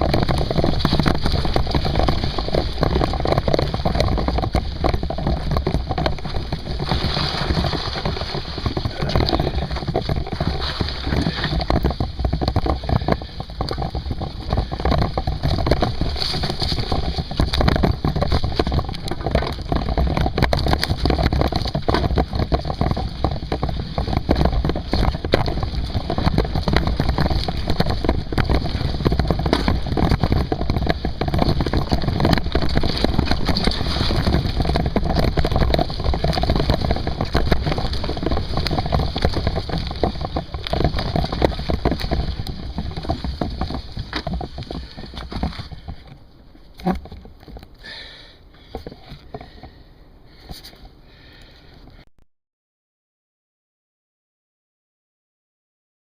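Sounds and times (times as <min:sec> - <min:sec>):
wind buffeting microphone: 0:00.0 - 0:46.2
bike rattles and knocks: 0:00.0 - 0:51.7
bike tyres rumbling: 0:00.0 - 0:52.1.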